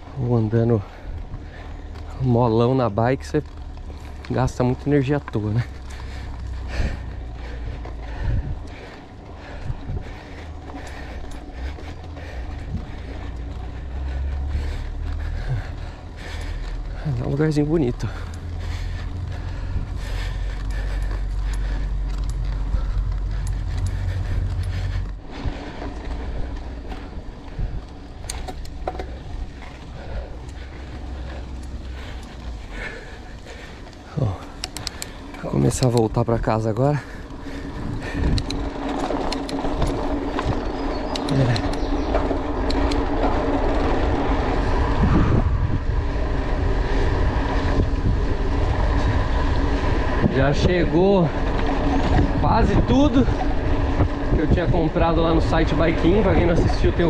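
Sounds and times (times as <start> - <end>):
bike rattling and clicking: 0.0 - 57.0
wind rumbling on microphone: 0.0 - 57.0.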